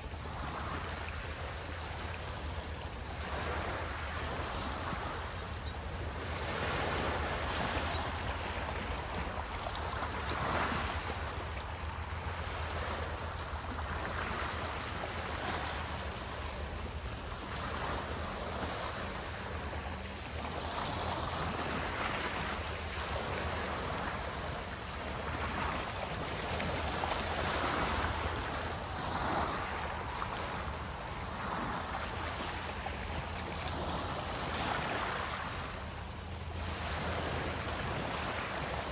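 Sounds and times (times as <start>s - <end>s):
small waves washing onto shore: 0.0s - 38.9s.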